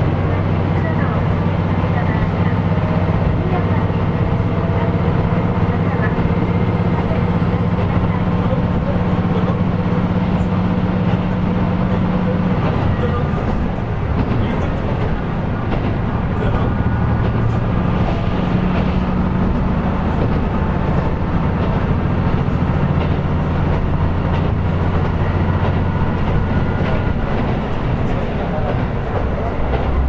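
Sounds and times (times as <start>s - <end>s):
diesel engine droning: 0.0s - 30.0s
wheels clicking over rails: 0.7s - 30.0s.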